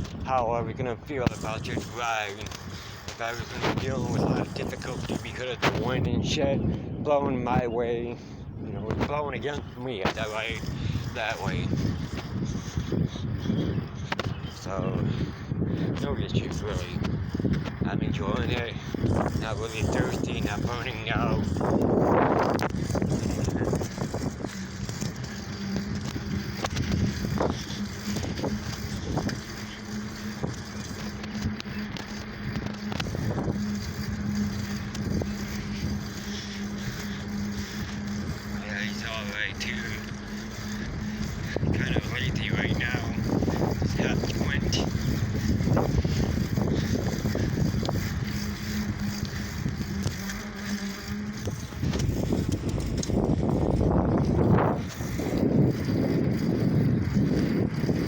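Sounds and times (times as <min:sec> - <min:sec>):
bicycle ride hum: 0:00.0 - 0:58.0
wind buffeting microphone: 0:00.0 - 0:58.0.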